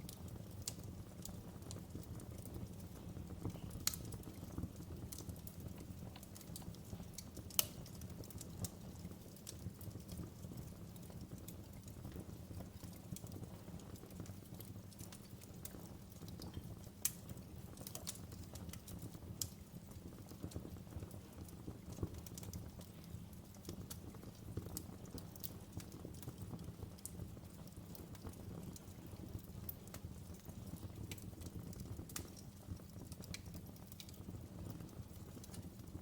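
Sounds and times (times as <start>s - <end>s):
fire popping and snapping: 0.0s - 36.0s
low fire rumble: 0.0s - 36.0s.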